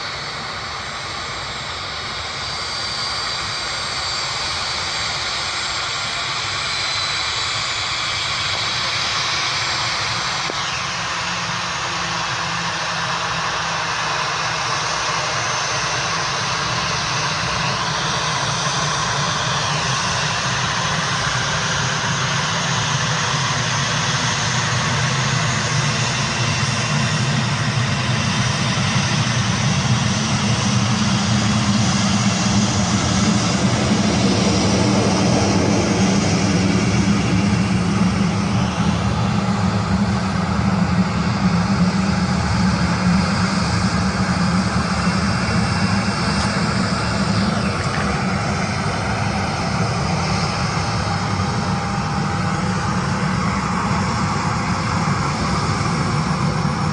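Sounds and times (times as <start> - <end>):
jet engines running: 0.0 - 56.9.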